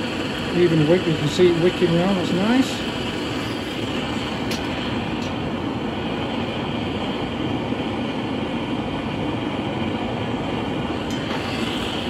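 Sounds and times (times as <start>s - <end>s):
propane torch burning: 0.0s - 12.0s.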